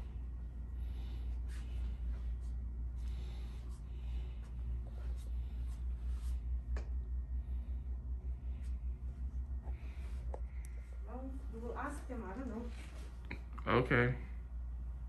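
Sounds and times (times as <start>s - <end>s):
soft breaths near microphone: 0.0s - 13.5s
steady low rumble: 0.0s - 15.0s.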